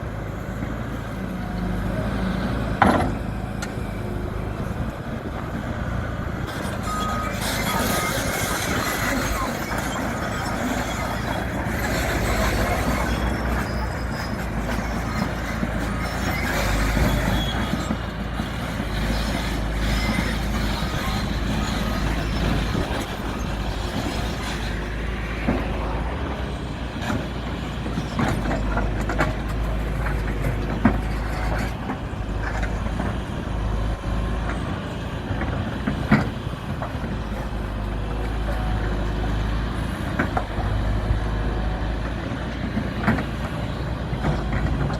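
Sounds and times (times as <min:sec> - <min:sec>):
heavy machine engine running: 0:00.0 - 0:44.9.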